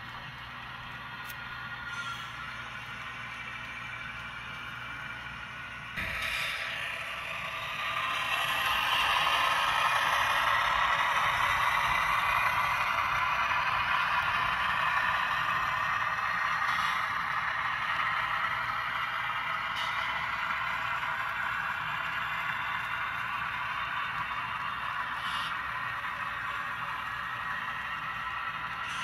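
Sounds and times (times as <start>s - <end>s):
model train wheels rattling on rails: 0.0s - 29.0s.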